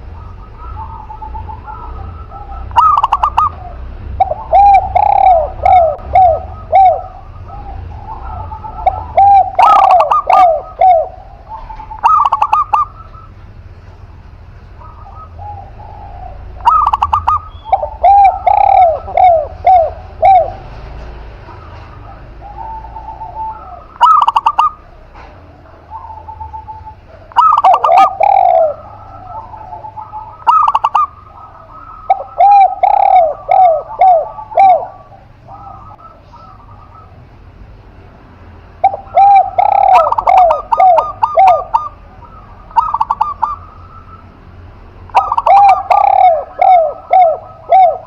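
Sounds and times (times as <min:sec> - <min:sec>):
doves cooing: 0:00.0 - 0:48.0.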